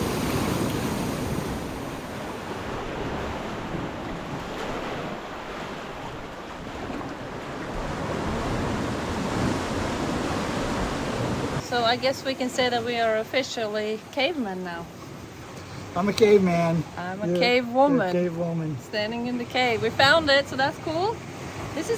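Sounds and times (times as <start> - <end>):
waves rushing on shore: 0.0 - 21.9.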